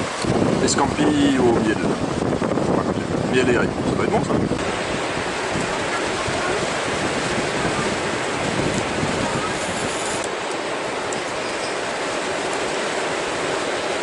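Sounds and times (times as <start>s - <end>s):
surf rushing on beach: 0.0s - 14.0s
wind: 0.0s - 14.0s.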